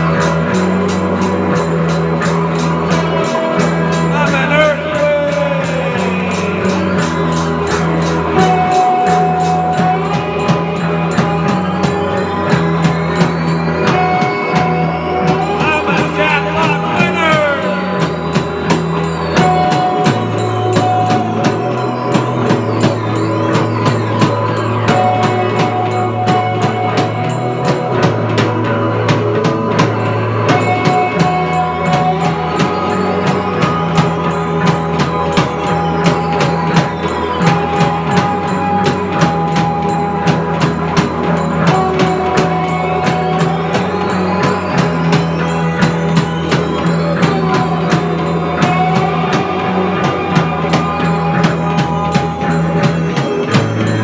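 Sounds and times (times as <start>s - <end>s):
drum kit with cymbals: 0.0s - 54.0s
rock band playing: 0.0s - 54.0s.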